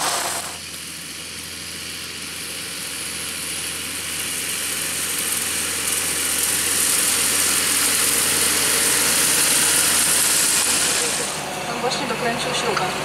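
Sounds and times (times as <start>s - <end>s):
steady high hiss of spreader: 0.0s - 11.9s
tractor diesel engine under load: 0.0s - 13.0s.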